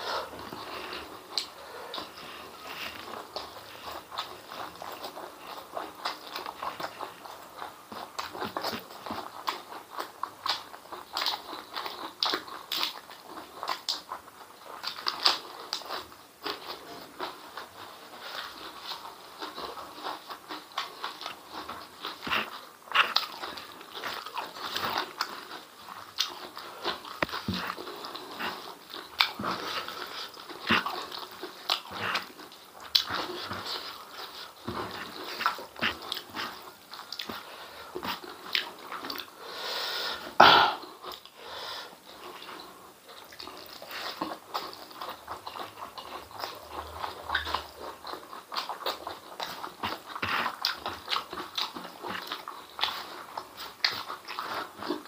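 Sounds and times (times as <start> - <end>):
wet chewing and lip-smacking: 0.0 - 39.4, 40.8 - 41.4, 42.0 - 55.0.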